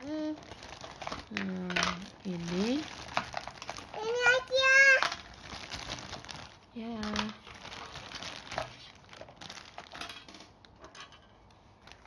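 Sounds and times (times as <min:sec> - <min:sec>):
plastic packaging crinkling: 0:00.1 - 0:10.8, 0:11.7 - 0:12.0.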